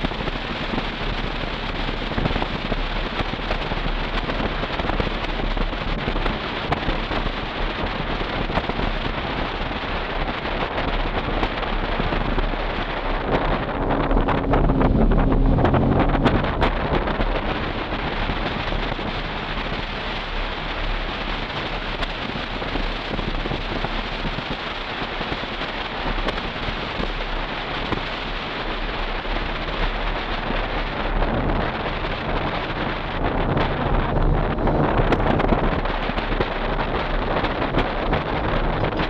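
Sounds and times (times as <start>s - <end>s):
car engine and exhaust: 0.0s - 39.0s
road and wind noise: 0.0s - 39.0s.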